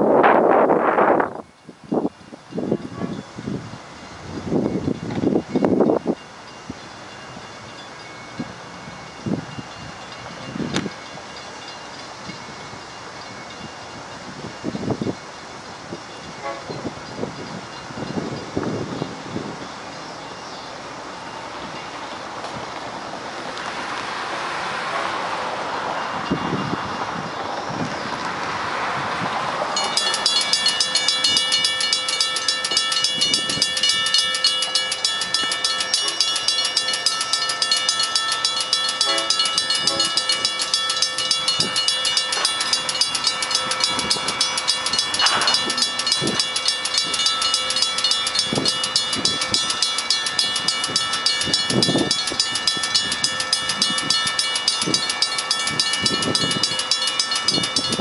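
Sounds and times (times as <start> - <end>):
railroad crossing bell ringing: 0.0 - 58.0.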